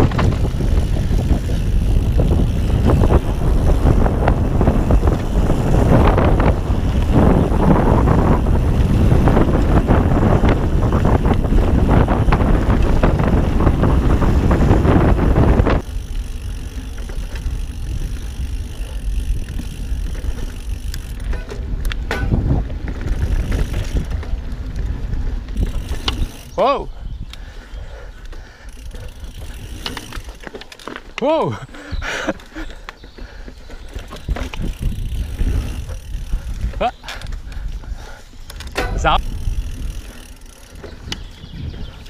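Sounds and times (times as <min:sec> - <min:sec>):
bike knocks and rattles: 0:00.0 - 0:26.5, 0:28.7 - 0:31.5, 0:32.3 - 0:37.6, 0:38.4 - 0:42.0
wind rush on microphone: 0:00.0 - 0:30.5, 0:31.4 - 0:42.0
bike tyres rolling on dirt: 0:00.0 - 0:42.0.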